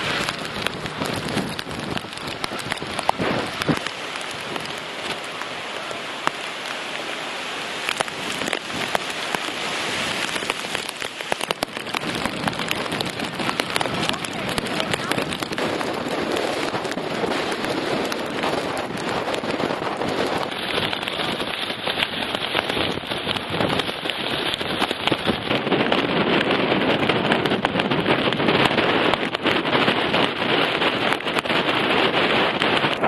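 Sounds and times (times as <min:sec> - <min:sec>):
wind and rain battering microphone: 0:00.0 - 0:33.0.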